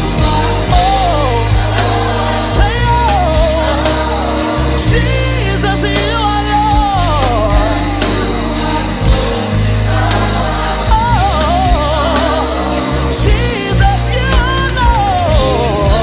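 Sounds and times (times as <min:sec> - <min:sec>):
band playing bass and backing: 0:00.0 - 0:16.0.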